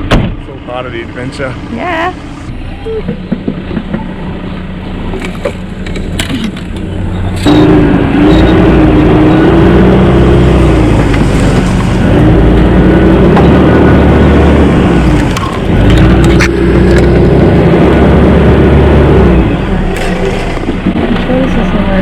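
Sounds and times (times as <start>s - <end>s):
engine working hard under load: 0.0s - 22.0s.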